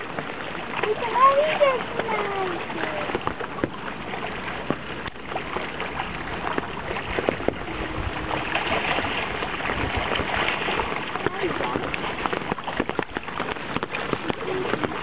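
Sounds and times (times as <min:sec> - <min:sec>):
water splashing against boulder: 0:00.0 - 0:15.0.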